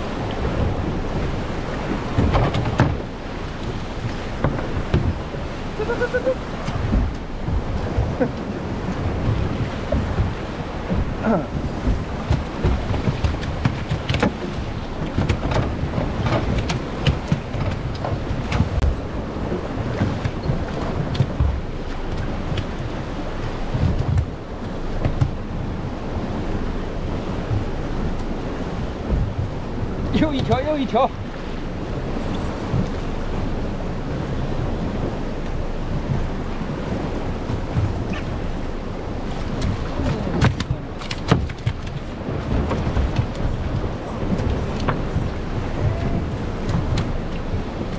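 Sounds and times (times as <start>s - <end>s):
crackles and splashes: 0.0s - 47.9s
waves surging against rocks: 0.0s - 47.9s
wind buffeting microphone: 0.0s - 47.9s.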